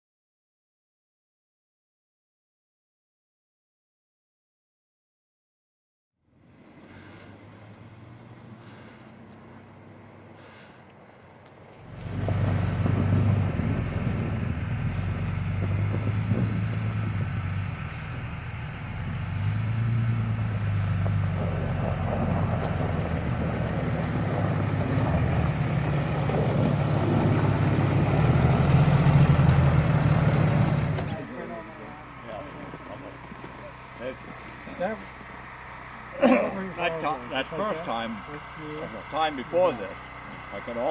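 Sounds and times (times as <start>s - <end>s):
snow-clearing machine engine: 6.3s - 40.9s.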